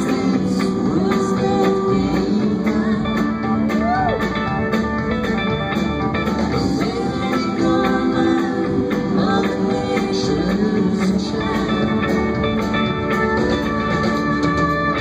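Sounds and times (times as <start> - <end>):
live country-rock band: 0.0 - 15.0.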